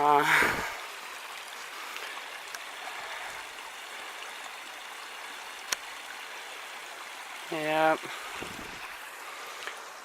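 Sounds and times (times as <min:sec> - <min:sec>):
forest stream rushing: 0:00.0 - 0:10.0.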